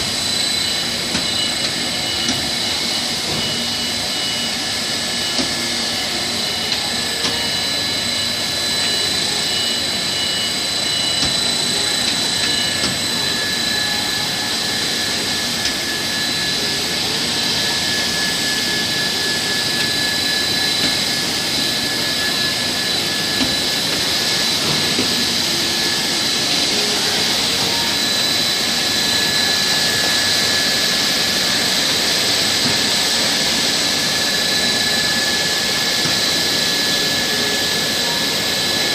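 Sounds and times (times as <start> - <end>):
high-pitched machine whines: 0.0 - 38.9.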